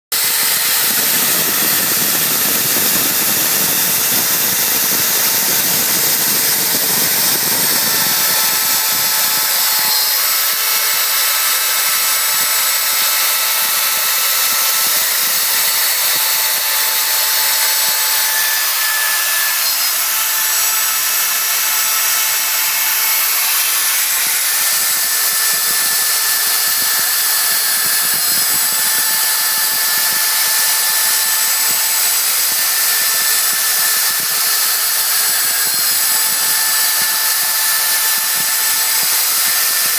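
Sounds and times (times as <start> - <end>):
bit cutting noise: 0.1 - 39.9
machine spindle high-pitched whine: 0.2 - 39.9.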